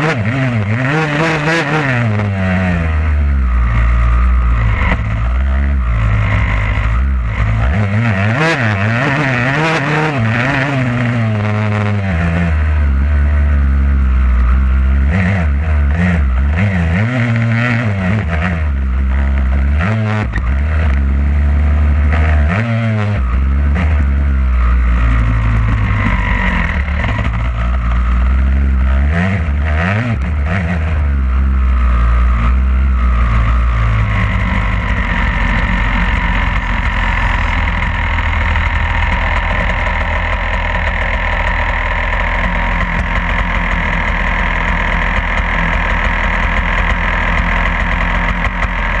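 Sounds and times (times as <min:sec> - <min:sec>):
motocross bike engine revving: 0:00.0 - 0:49.0.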